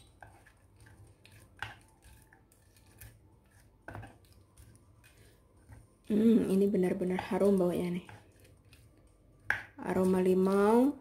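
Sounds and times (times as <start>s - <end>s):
spoon stirring wet paste: 0.0s - 11.0s.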